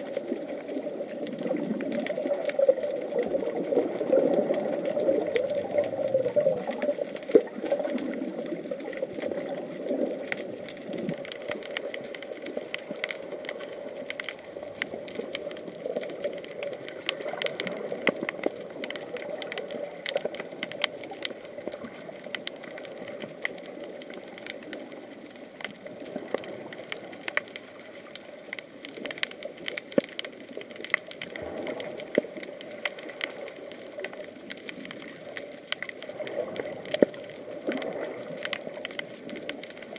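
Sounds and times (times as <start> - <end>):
muffled underwater rush: 0.0 - 39.9
underwater crackle of clicks: 0.0 - 39.9.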